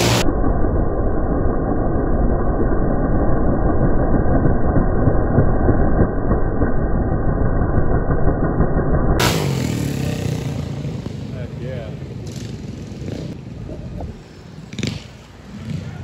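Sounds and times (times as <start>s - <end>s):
mini bike engines at full throttle: 0.0s - 0.3s, 2.1s - 16.0s.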